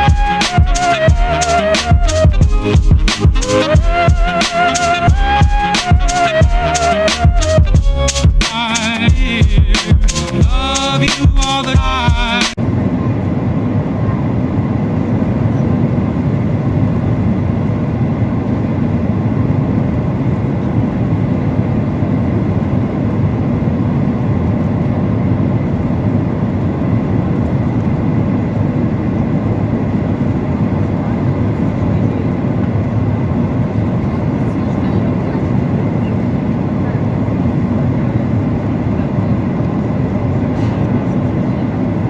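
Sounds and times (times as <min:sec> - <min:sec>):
airplane cabin roar: 0:00.0 - 0:42.0.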